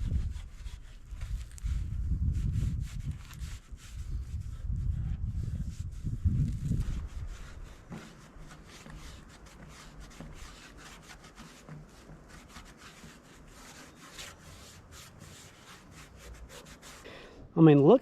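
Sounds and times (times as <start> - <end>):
rag scrubbing metal tank: 0.0 - 17.3.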